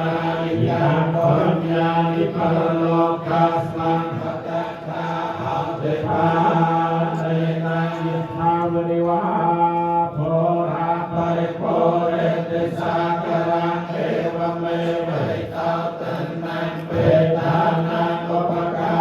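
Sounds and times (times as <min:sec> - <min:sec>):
voices chanting in unison: 0:00.0 - 0:19.0.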